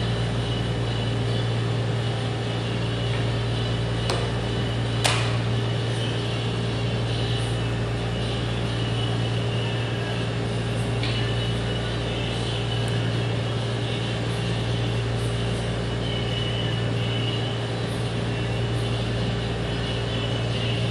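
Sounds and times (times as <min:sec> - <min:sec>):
mechanical room hum: 0:00.0 - 0:20.9.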